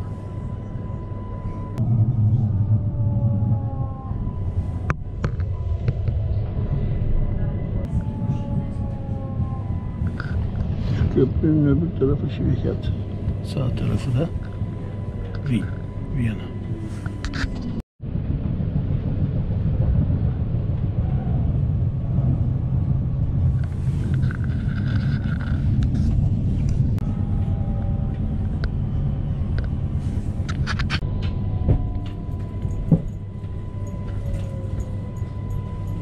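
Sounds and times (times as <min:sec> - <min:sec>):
train rumble inside carriage: 0:00.0 - 0:36.0.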